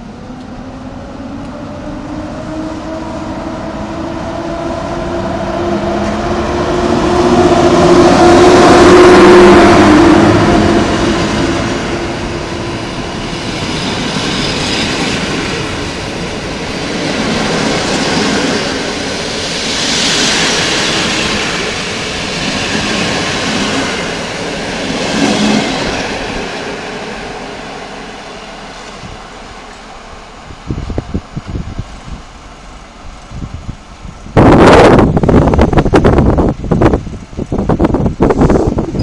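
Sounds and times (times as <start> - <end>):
train wheels rushing on rails: 0.0 - 39.0.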